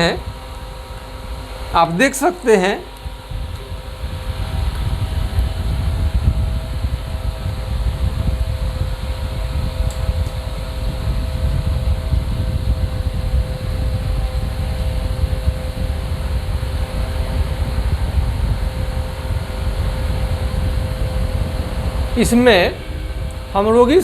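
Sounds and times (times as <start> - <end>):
faint steady tones: 0.0 - 24.0
machine hum: 0.0 - 24.0
low rumble: 2.8 - 24.0.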